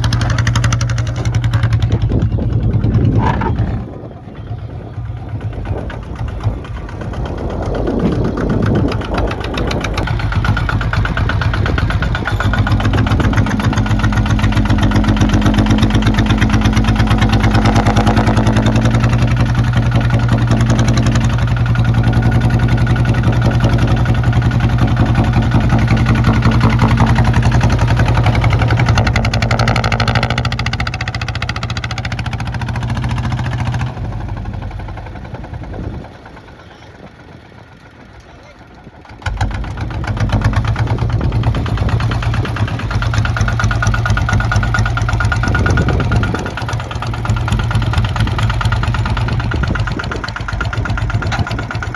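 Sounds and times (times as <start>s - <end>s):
diesel tractor engine running: 0.0s - 51.9s.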